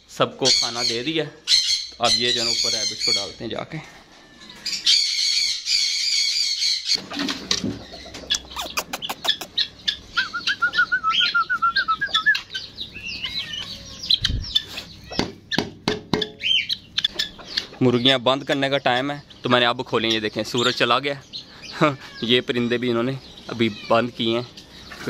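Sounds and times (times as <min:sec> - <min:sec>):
parrots chirping: 0:00.4 - 0:03.4, 0:04.6 - 0:25.0.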